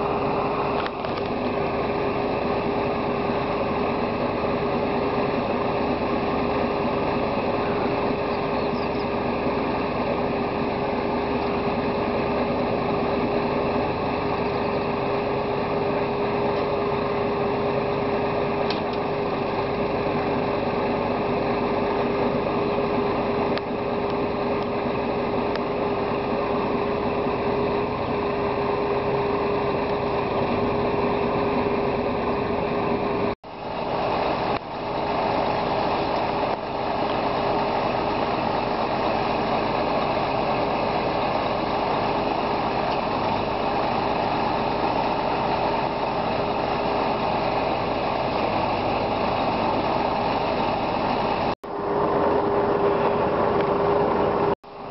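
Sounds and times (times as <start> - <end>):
machinery humming: 0.0 - 54.9.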